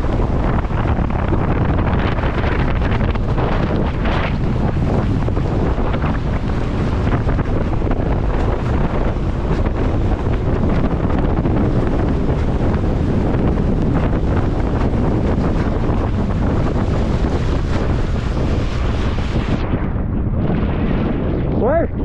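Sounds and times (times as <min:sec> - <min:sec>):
rushing water: 0:00.0 - 0:19.6
jet ski running: 0:00.0 - 0:20.6
wind buffeting microphone: 0:00.0 - 0:22.0.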